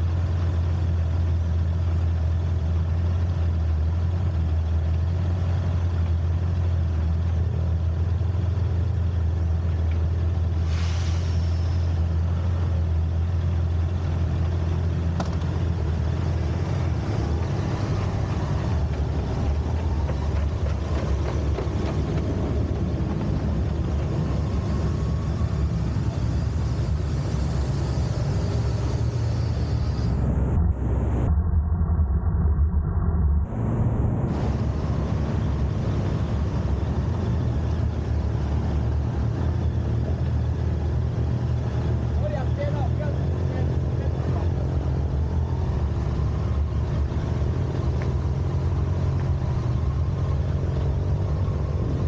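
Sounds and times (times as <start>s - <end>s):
vehicle engine and road noise: 0.0s - 52.0s.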